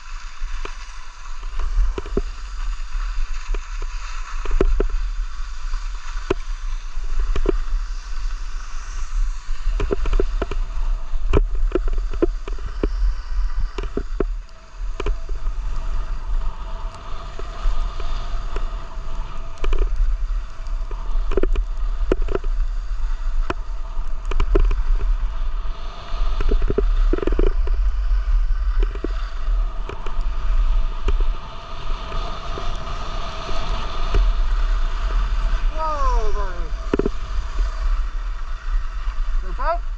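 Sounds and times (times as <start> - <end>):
skis sliding on packed snow: 0.0 - 39.9
wind rumbling on microphone: 0.0 - 39.9.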